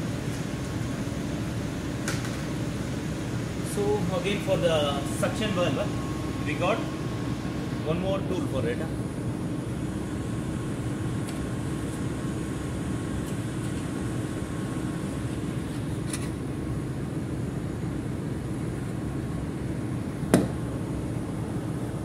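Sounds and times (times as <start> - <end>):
ventilation and machinery hum: 0.0 - 22.0.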